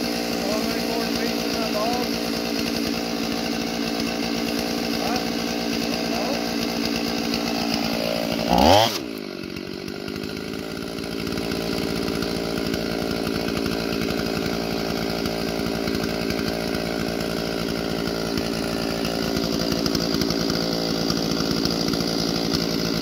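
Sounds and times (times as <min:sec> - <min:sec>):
chainsaw cutting log: 0:00.0 - 0:23.0.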